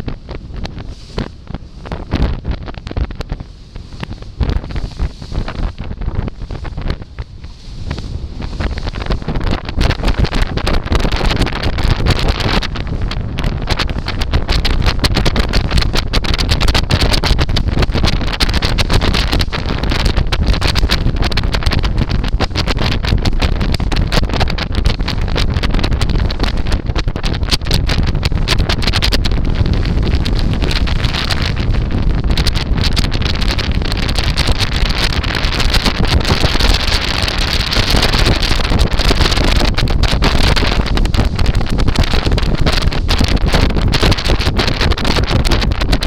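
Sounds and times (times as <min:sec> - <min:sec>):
wind buffeting microphone: 0:00.0 - 0:46.0
boat rushing through water: 0:00.2 - 0:46.0.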